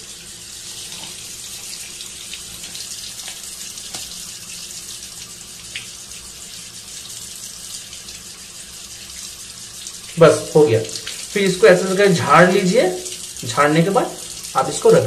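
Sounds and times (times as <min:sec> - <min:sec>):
tap water running into sink: 0:00.0 - 0:15.0.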